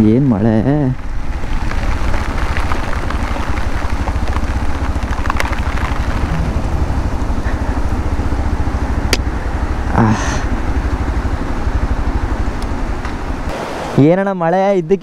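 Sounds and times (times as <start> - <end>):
motorcycle engine idling: 0.1 - 13.5.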